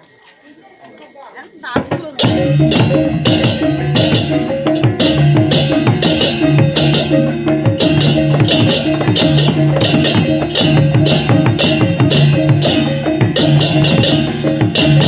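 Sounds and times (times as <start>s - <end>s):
drums: 1.6s - 15.0s
hand cymbals crashing: 2.2s - 15.0s.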